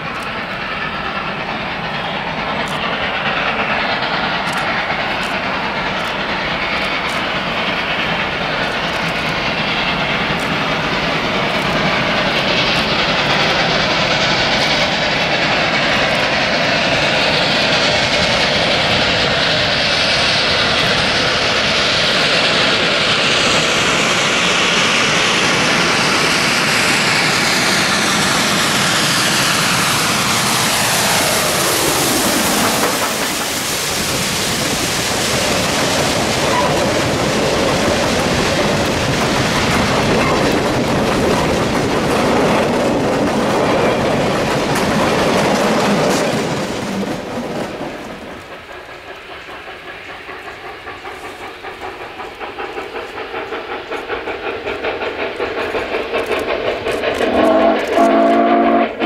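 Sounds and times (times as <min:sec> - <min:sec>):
steam locomotive exhaust: 0:00.0 - 0:59.0.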